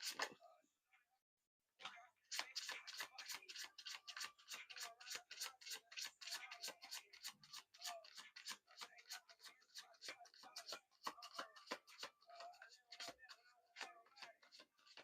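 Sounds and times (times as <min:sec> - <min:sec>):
cards being shuffled: 0:00.0 - 0:00.4, 0:02.3 - 0:15.0.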